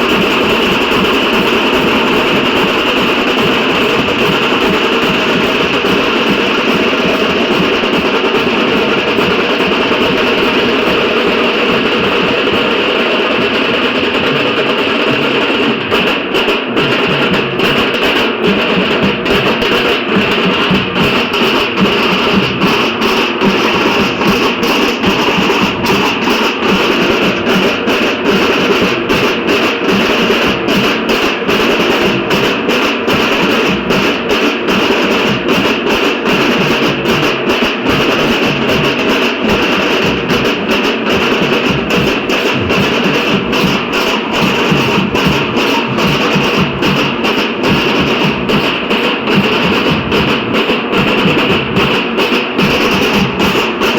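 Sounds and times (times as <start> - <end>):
drum ensemble beating rhythm: 0.0 - 53.9.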